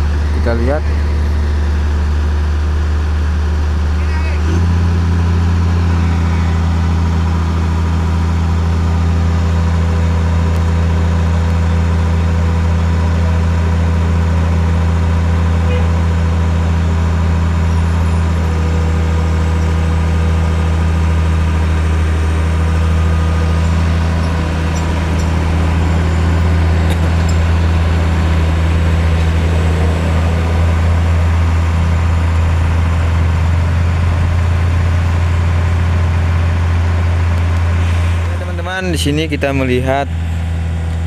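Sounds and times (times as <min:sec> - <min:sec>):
large engine humming: 0:00.0 - 0:41.0.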